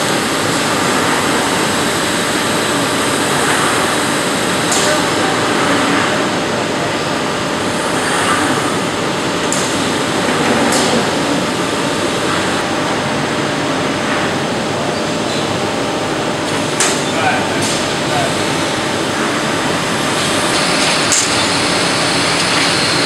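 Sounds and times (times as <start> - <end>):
machinery running: 0.0 - 23.0.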